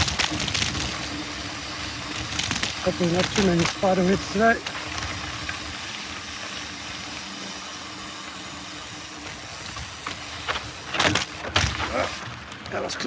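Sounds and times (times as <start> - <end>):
bike knocks and rattles: 0.0 - 6.8, 8.6 - 13.0
bike tyres and wind hissing: 0.0 - 13.0.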